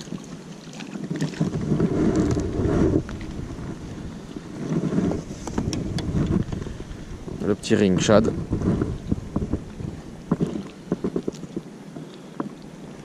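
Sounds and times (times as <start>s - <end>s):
wind buffeting microphone: 1.0s - 11.6s.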